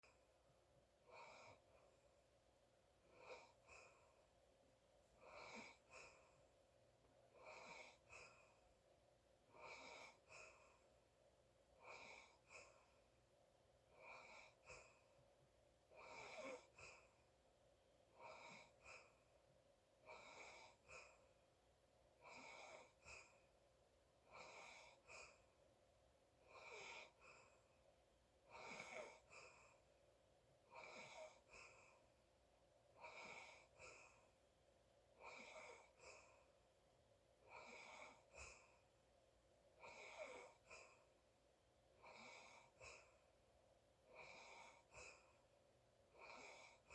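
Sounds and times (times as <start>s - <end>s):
quiet snoring breaths: 0.0s - 46.9s.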